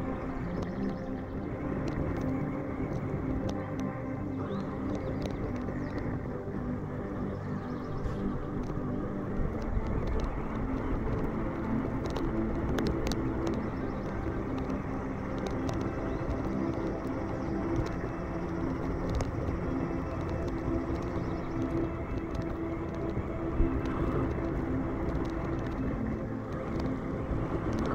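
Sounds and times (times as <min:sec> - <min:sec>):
dense rumble: 0:00.0 - 0:27.9
sharp ticks: 0:00.0 - 0:27.9.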